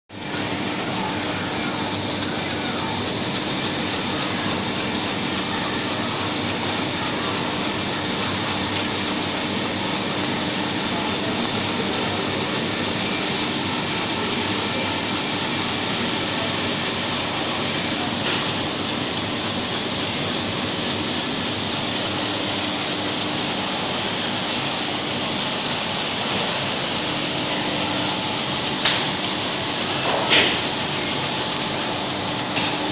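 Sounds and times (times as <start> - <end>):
laser engraving machine running: 0.1 - 32.9.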